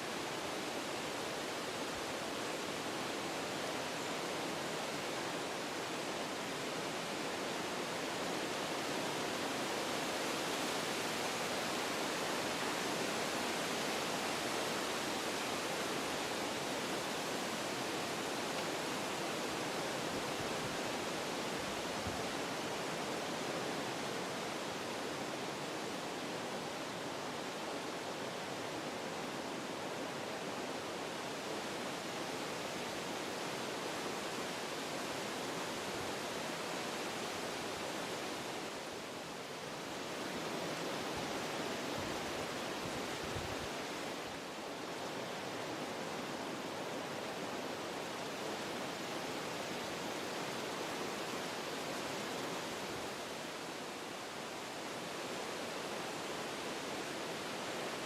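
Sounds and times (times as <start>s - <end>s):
wind blowing through trees: 0.0s - 58.0s.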